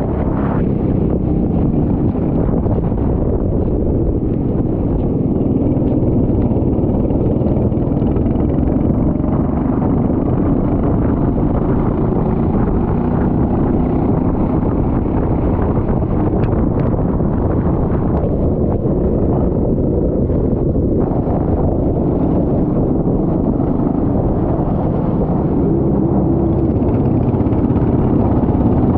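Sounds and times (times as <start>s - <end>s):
go-kart engine running: 0.0s - 28.9s
wind rumble on microphone: 0.0s - 28.9s.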